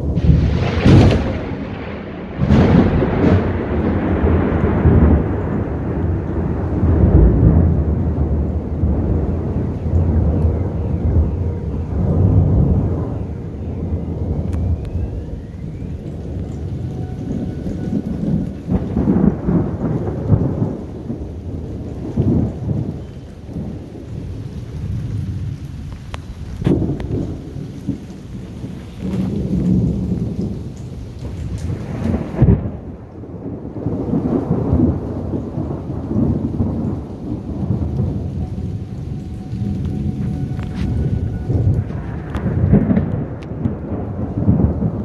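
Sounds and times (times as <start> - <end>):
sharp thunder cracks: 0.0 - 45.0
steady rain: 0.0 - 45.0
thunder rumbling: 0.0 - 45.0.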